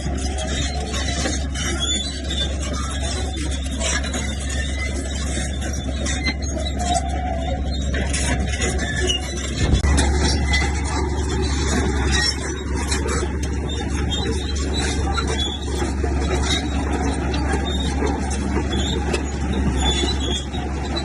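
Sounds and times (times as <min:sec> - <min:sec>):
bulldozer diesel engine drone: 0:00.0 - 0:21.0
machine clanks and rattles: 0:00.0 - 0:21.0.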